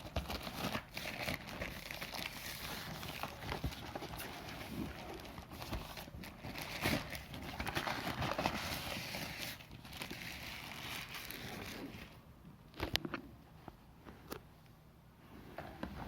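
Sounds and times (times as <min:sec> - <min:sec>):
packaging crinkling and rustling: 0:00.0 - 0:13.1.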